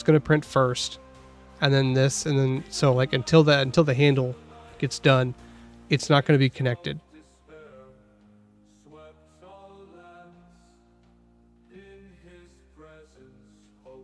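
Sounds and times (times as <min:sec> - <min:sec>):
soft instrumental music: 0:00.0 - 0:14.0.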